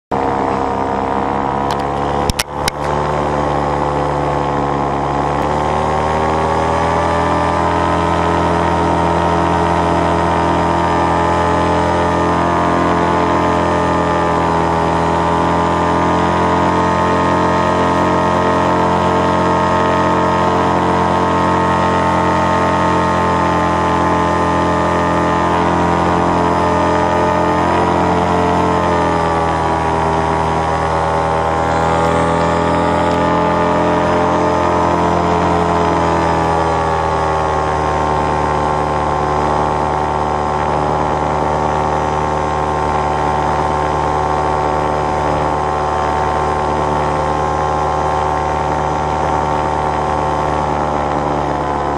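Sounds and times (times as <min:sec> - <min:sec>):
paramotor engine and propeller: 0:00.0 - 0:51.9.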